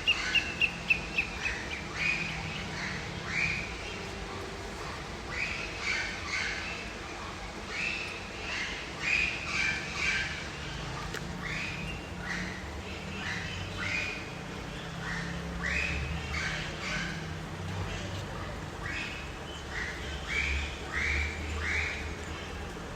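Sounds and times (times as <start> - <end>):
birds chirping: 0.0 - 22.9.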